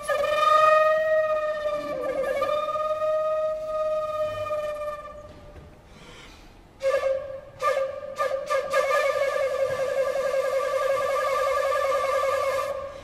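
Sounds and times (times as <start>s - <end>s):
flute playing a long note: 0.0s - 5.6s, 6.8s - 13.0s.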